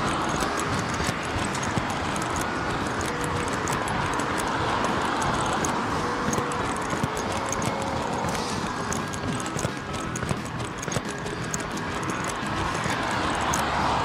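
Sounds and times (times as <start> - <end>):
running footsteps on pavement: 0.0 - 14.0.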